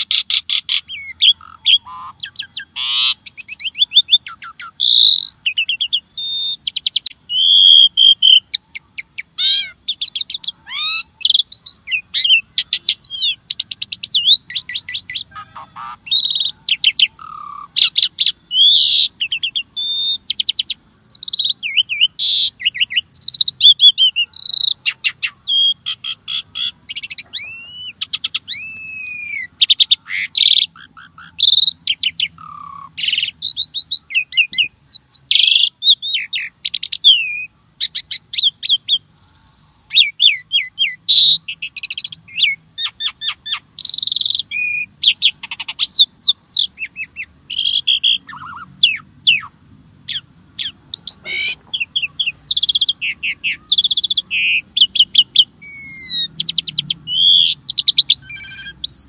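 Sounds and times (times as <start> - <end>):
starling singing: 0.0 - 59.0.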